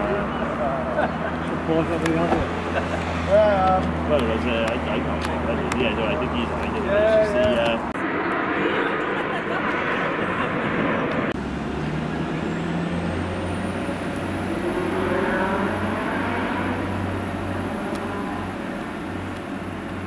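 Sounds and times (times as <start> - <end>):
diesel train engine drone: 0.0 - 20.0
jet aircraft passing overhead: 0.0 - 20.0.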